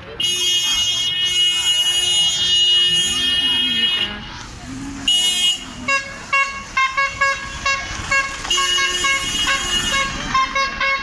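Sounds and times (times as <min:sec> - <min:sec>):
horn tooting: 0:00.1 - 0:04.3, 0:05.0 - 0:11.0.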